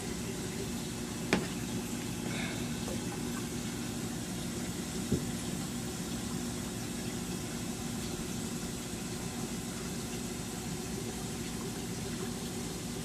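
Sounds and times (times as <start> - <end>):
aquarium pumps humming: 0.0 - 13.0.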